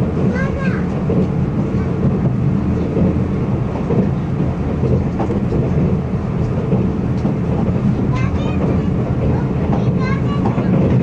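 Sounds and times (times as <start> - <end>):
train rumble from inside carriage: 0.0 - 11.0.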